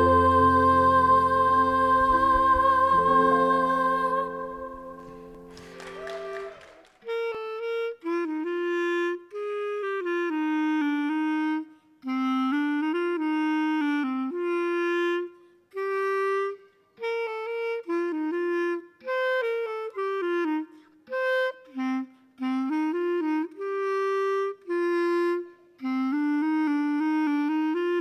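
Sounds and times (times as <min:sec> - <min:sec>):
wind instrument melody: 0:00.0 - 0:28.0.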